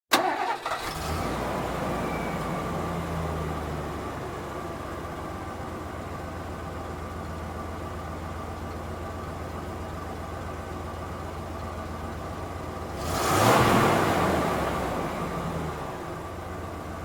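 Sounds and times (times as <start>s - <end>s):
truck engine idling: 0.1s - 13.1s, 13.8s - 17.0s.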